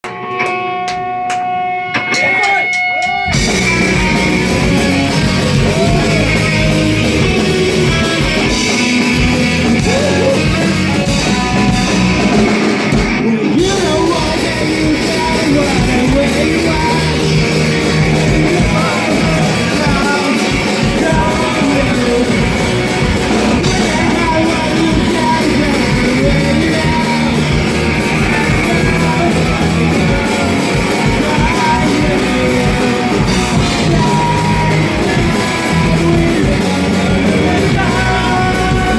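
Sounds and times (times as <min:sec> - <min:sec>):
rock song with sung vocal: 0:00.0 - 0:38.9.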